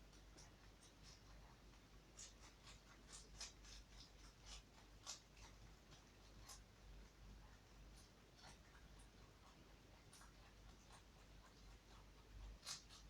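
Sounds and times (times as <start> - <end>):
rabbit chewing lettuce: 0.0 - 13.0.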